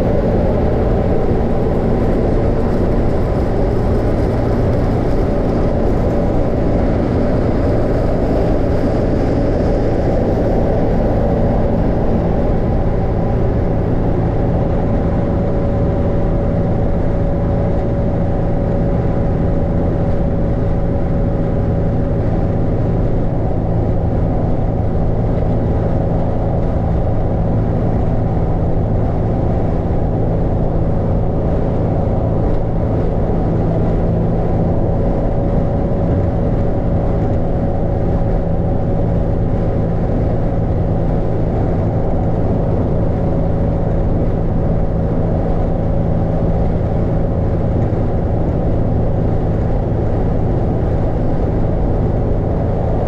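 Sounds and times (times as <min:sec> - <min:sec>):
car tyres and engine rumble: 0:00.0 - 0:53.0
steady low hum: 0:00.0 - 0:53.0.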